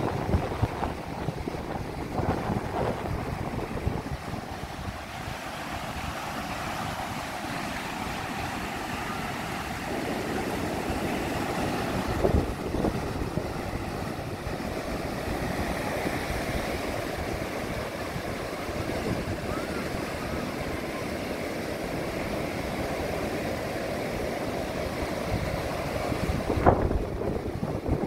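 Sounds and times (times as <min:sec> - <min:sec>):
ocean surf breaking on beach: 0:00.0 - 0:28.0
wind on microphone: 0:00.0 - 0:28.0.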